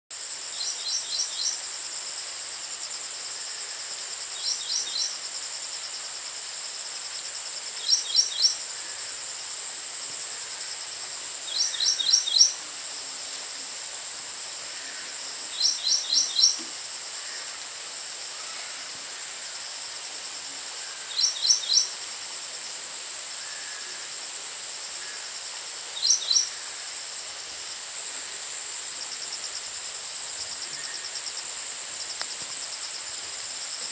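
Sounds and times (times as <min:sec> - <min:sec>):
high-pitched insect drone: 0:00.2 - 0:33.9.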